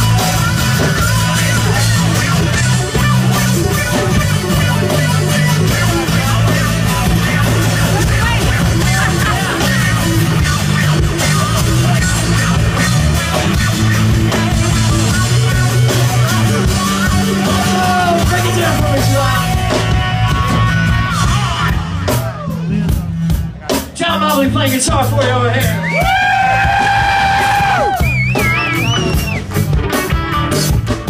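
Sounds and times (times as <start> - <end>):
live rock band over speakers: 0.0 - 31.0.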